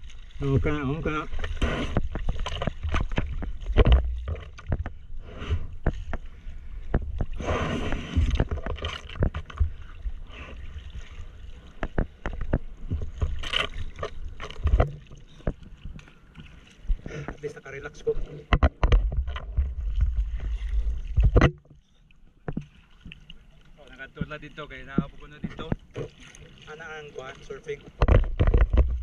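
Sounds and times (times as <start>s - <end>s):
water splashing around surfboard: 0.0s - 29.0s.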